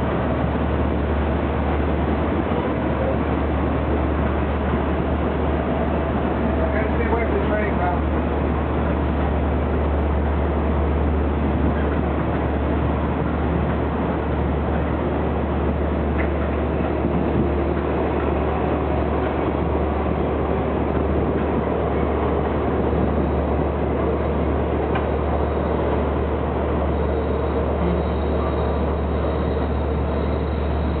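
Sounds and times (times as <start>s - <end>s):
diesel train rumbling past: 0.0s - 31.0s.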